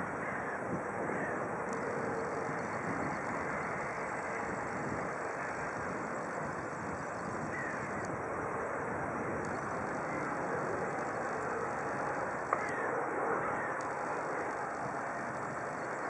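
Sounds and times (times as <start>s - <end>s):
gulls calling: 0.0s - 16.0s
helicopter drone: 0.0s - 16.0s.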